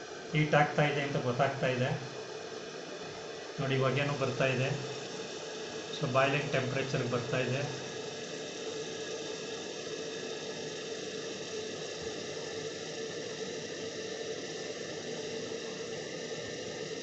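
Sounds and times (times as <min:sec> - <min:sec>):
electric kettle heating water: 0:00.0 - 0:17.0.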